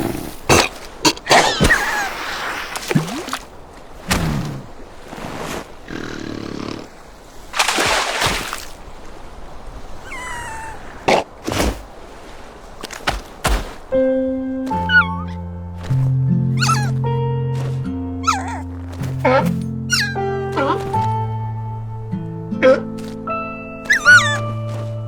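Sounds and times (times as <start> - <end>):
splashing water: 0.0 - 15.2, 15.8 - 19.3, 20.0 - 21.4, 22.8 - 25.0.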